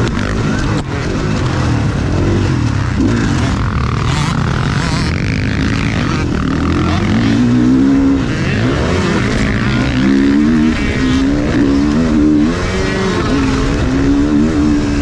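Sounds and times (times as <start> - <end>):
motocross bike engine revving: 0.0 - 15.0
steady wind: 0.0 - 15.0
track noise: 0.0 - 15.0.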